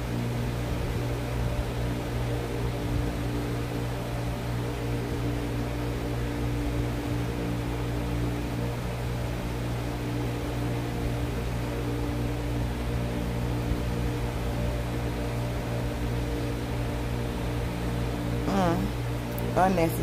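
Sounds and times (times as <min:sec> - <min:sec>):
steady electrical hum with hiss: 0:00.0 - 0:20.0.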